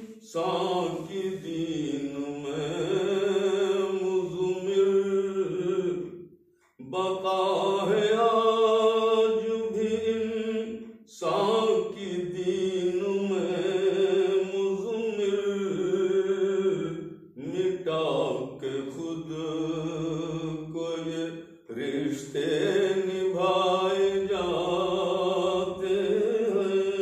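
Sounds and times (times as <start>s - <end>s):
man singing unaccompanied: 0.0s - 6.1s, 6.8s - 27.0s.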